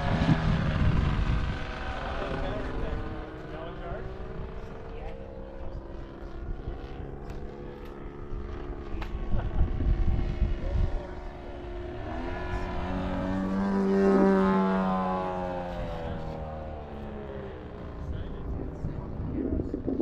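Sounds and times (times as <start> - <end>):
low rumble: 0.0 - 20.0
model airplane engine buzzing: 0.0 - 20.0
model plane passing by: 0.0 - 20.0.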